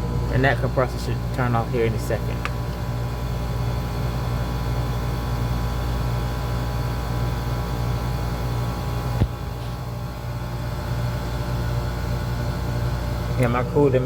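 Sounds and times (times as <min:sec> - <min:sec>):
compressor humming: 0:00.0 - 0:14.0.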